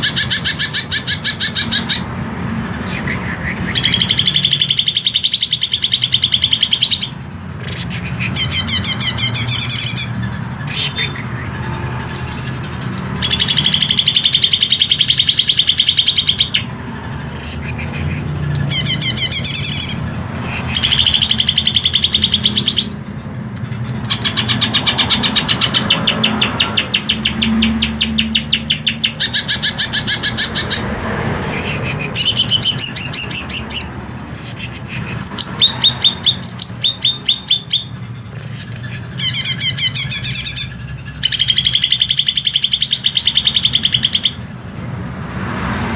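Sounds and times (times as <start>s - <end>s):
bird singing harsh trills: 0.0s - 44.8s.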